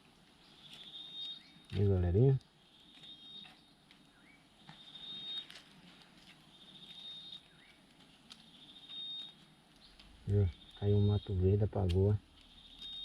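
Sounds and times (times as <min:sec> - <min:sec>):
faint clicks and crackles: 0:00.1 - 0:11.0, 0:11.8 - 0:13.0.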